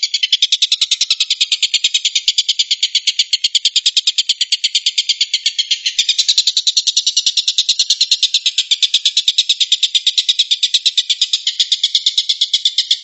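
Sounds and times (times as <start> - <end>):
bird rapid high-pitched call: 0.0 - 13.0.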